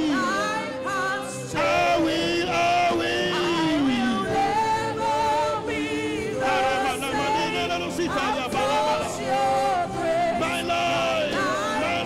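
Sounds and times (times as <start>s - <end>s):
choir and congregation singing: 0.0s - 12.0s.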